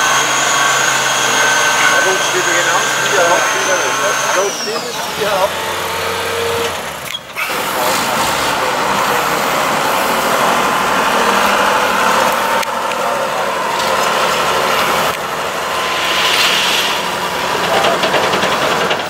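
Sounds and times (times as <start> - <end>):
truck engine under load: 0.0 - 19.0.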